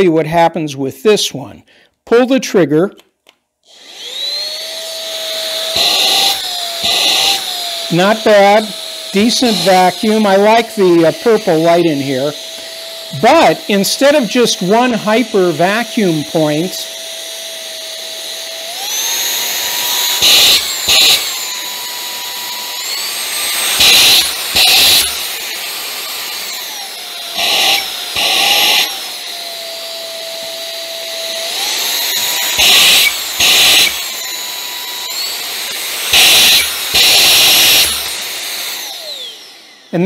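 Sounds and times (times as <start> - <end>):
stick vacuum motor whining: 3.6 - 40.0.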